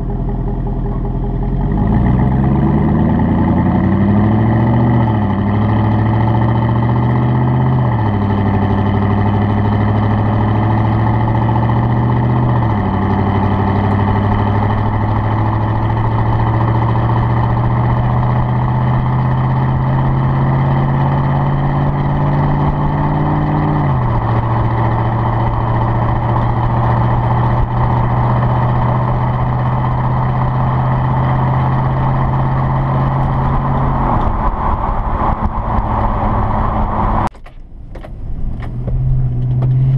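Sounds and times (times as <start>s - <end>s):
engine drone with upshifts: 0.0s - 39.9s
road noise: 0.0s - 39.9s.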